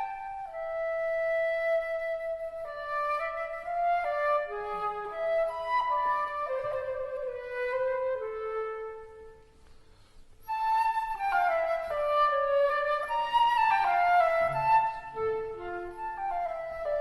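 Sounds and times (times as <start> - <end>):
woodwind melody: 0.0 - 17.0.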